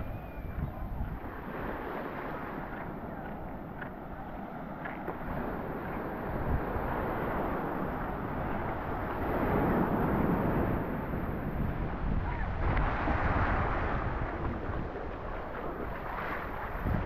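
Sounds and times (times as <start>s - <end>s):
sea waves washing onto beach: 0.0s - 17.0s
wind buffeting microphone: 0.0s - 17.0s.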